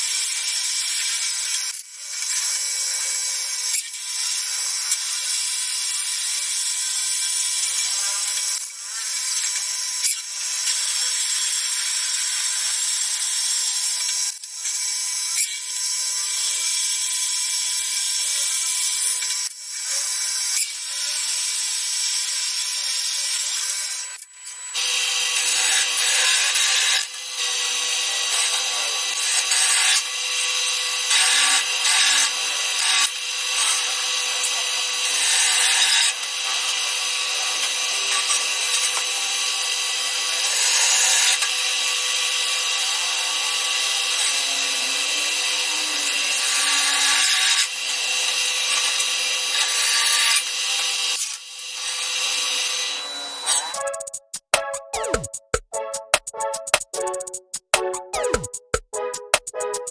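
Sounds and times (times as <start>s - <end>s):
power tool rasping on steel: 0.0s - 54.5s.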